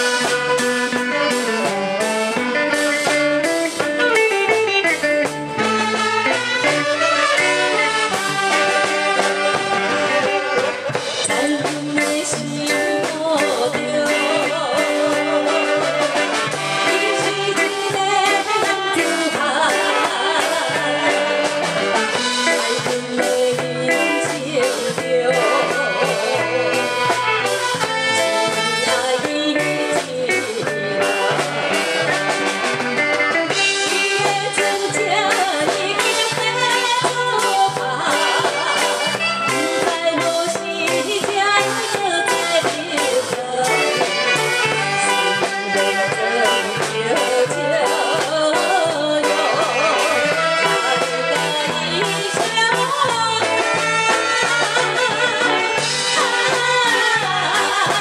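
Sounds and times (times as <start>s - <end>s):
live band music: 0.0s - 58.0s.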